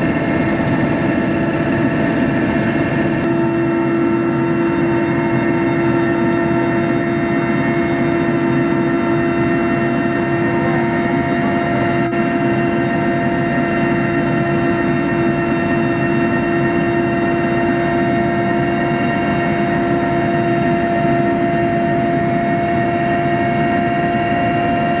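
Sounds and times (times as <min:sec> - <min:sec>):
aircraft engine drone: 0:00.0 - 0:25.0
constant whine: 0:00.0 - 0:25.0.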